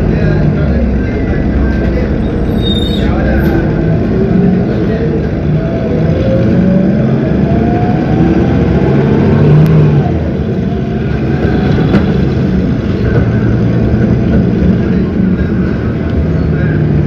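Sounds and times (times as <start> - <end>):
bus diesel engine with rising whine: 0.0 - 17.0.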